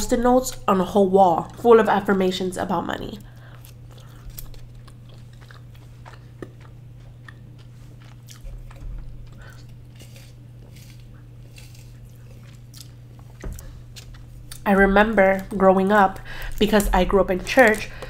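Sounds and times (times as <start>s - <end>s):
steady low hum: 0.0s - 18.0s
chewing with mouth clicks: 3.2s - 18.0s.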